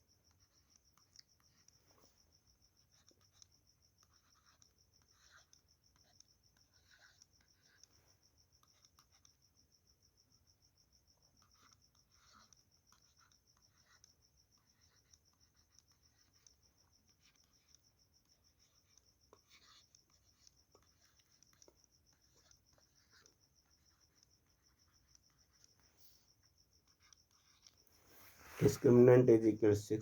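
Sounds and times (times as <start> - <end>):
pen scratching while writing: 0.0 - 29.1.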